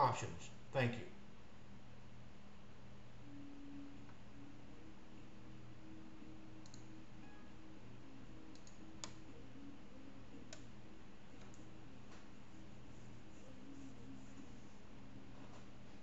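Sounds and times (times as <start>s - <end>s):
low electrical hum and hiss: 0.0s - 16.0s.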